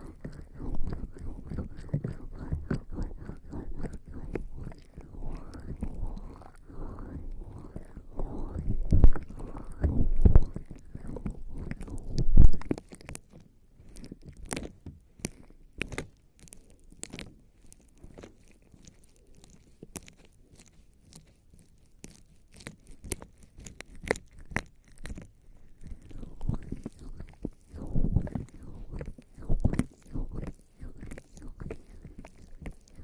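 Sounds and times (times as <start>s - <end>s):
skin rubbing against microphone: 0.0s - 33.0s
sticky wet crackles and clicks: 0.0s - 33.0s.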